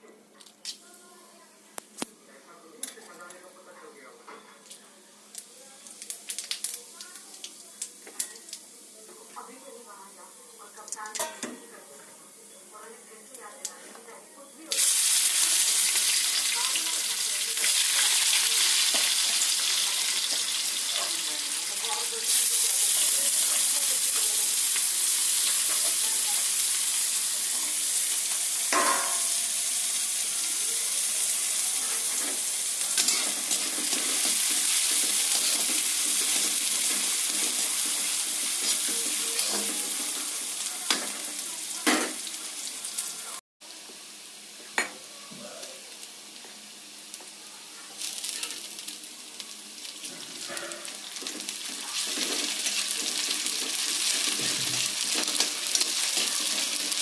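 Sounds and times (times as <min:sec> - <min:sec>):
food sizzling in oil: 0:05.2 - 0:57.0.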